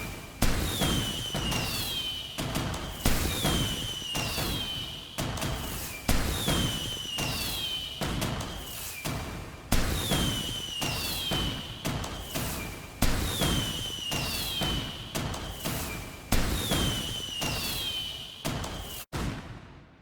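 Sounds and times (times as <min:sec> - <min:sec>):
falling firework whistle: 0:00.0 - 0:19.4
fireworks bangs: 0:00.0 - 0:20.0.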